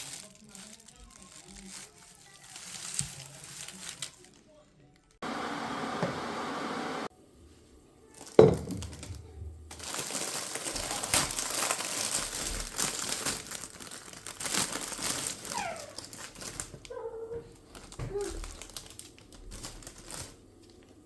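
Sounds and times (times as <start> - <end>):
packaging crinkling and rustling: 0.0 - 5.2, 8.2 - 21.0.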